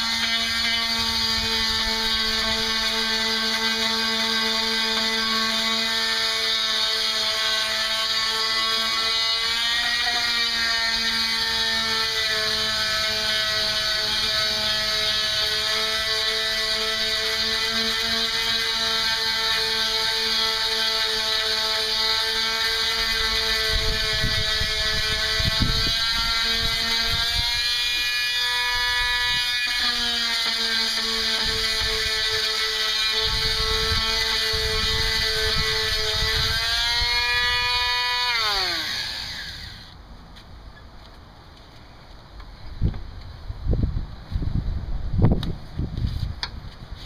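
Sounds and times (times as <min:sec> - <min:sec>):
electric sander whining: 0:00.0 - 0:40.0.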